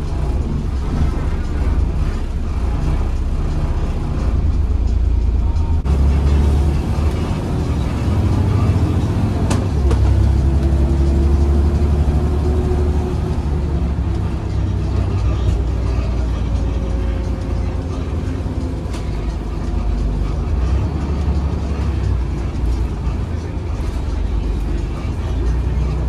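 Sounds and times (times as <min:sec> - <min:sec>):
bus diesel engine: 0:00.0 - 0:26.0.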